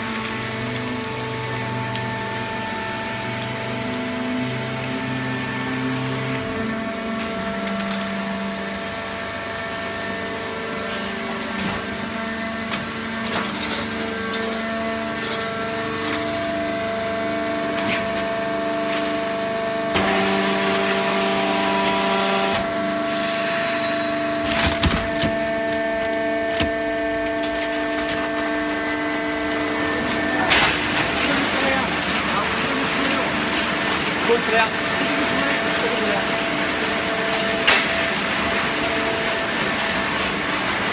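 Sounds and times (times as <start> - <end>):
baler motor hum and whine: 0.0 - 40.9.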